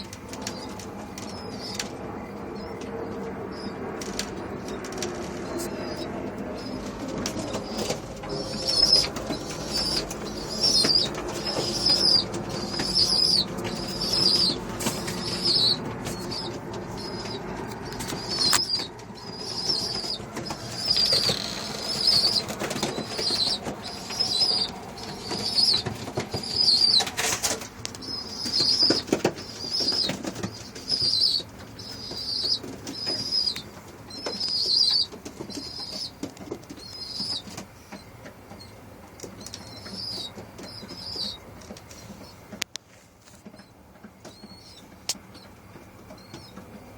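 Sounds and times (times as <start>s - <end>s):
pigeons cooing: 0.0s - 38.1s.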